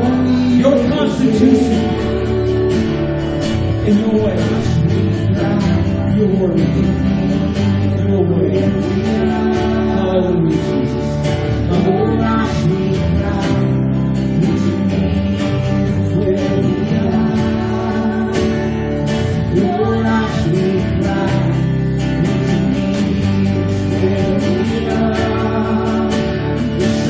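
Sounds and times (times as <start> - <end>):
guitar: 0.0 - 27.0
keyboard: 0.0 - 27.0
person singing: 0.0 - 27.0
worship band playing slow song: 0.0 - 27.0.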